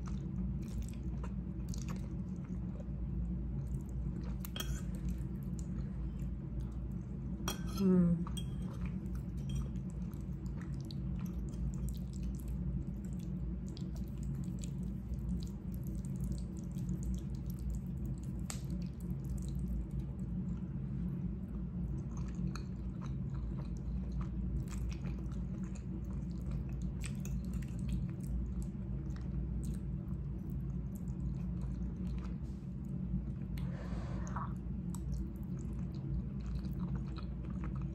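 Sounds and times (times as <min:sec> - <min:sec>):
chewing and wet mouth sounds: 0:00.0 - 0:37.9
low hum: 0:00.0 - 0:37.9.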